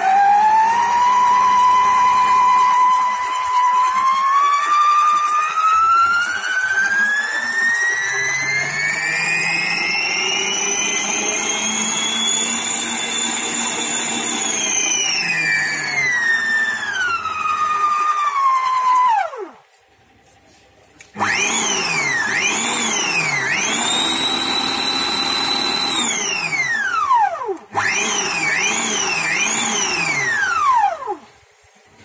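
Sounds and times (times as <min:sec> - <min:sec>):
stand mixer motor whining: 0:00.0 - 0:19.7, 0:21.0 - 0:31.5.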